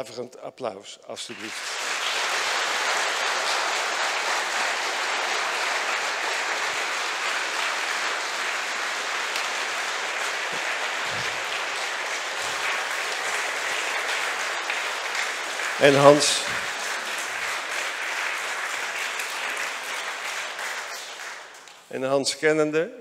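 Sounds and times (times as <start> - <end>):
crowd applauding: 1.3 - 21.9.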